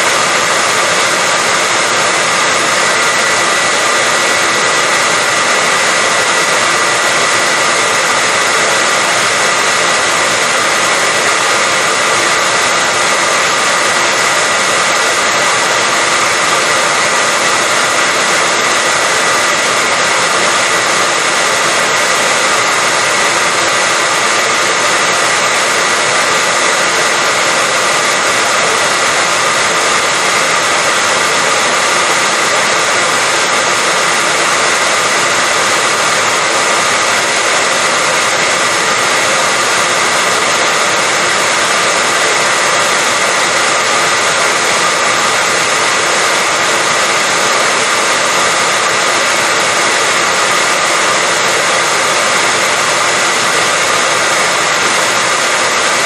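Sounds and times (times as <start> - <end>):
hair dryer blowing air: 0.0 - 56.0.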